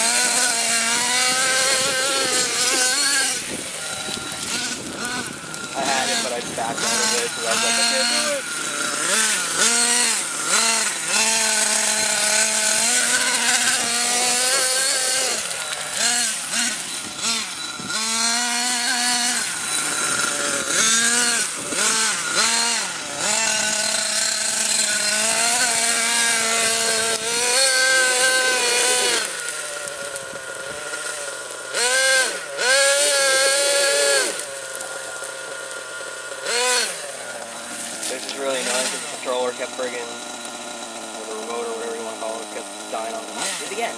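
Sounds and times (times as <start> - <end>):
toy car motor revving: 0.0 - 43.9.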